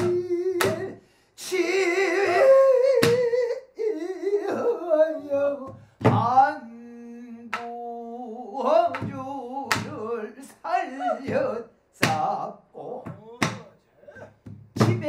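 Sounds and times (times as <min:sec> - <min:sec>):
man singing with vibrato: 0:00.0 - 0:13.7, 0:14.7 - 0:15.0.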